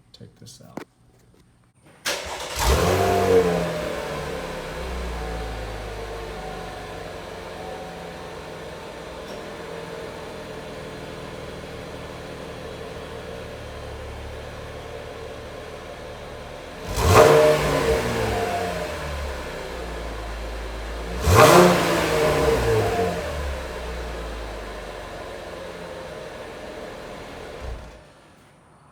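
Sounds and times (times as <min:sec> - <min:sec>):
car engine idling and revving: 0:02.1 - 0:28.6.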